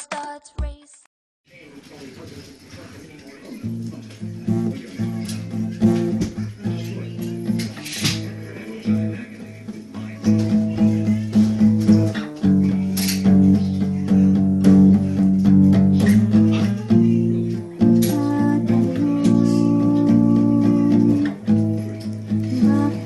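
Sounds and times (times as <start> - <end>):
acoustic guitar strummed chords: 3.6 - 23.0.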